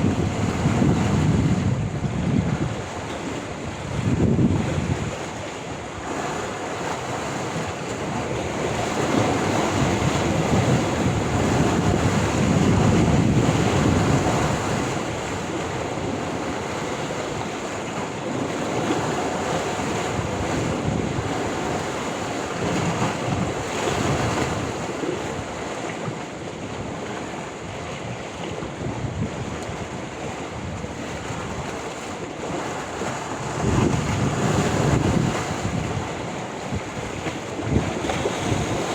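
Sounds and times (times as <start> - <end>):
sea waves breaking on shore: 0.0 - 38.9
wind buffeting microphone: 0.0 - 38.9.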